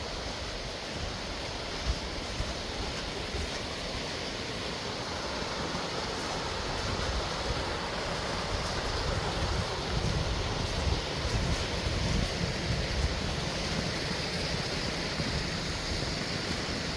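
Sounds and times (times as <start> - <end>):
wind rumbling on microphone: 0.0 - 4.0, 6.4 - 16.9
water rushing: 0.0 - 16.9.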